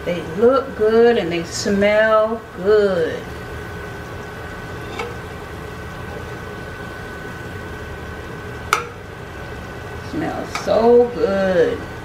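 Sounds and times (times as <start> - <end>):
constant hum: 0.0 - 12.0
hot oil bubbling and sizzling: 0.0 - 12.0.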